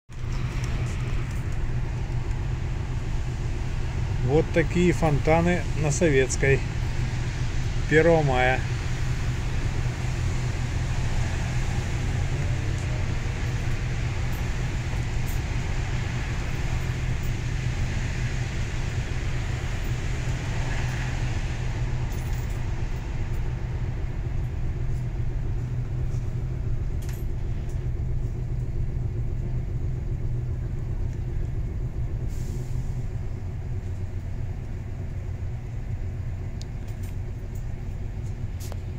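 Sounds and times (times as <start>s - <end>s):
low rumble: 0.1s - 38.9s.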